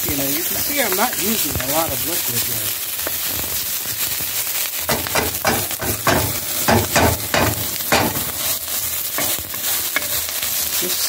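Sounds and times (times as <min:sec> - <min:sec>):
vegetables sizzling in a wok: 0:00.0 - 0:11.0
wooden spatula scraping a wok: 0:00.1 - 0:11.0.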